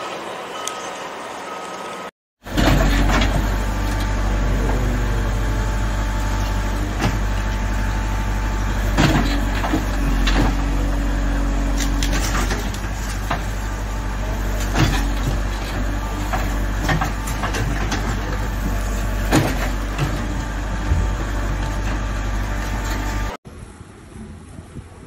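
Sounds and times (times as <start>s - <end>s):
diesel engine running: 2.4s - 23.4s.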